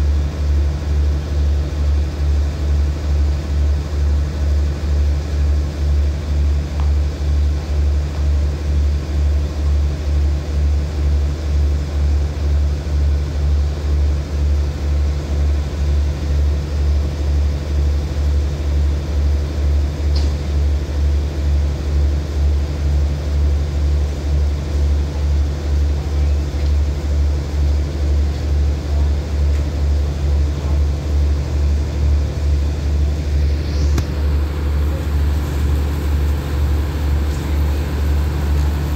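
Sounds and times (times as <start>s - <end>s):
train diesel engine idling: 0.0s - 38.9s.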